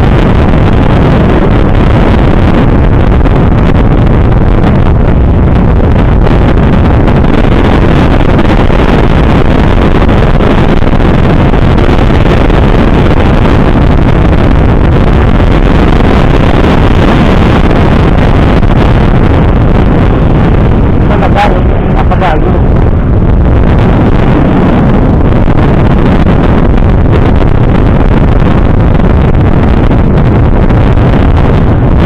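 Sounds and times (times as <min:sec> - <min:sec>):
vehicle road noise: 0:00.0 - 0:32.0
wind rush on microphone: 0:00.0 - 0:32.0.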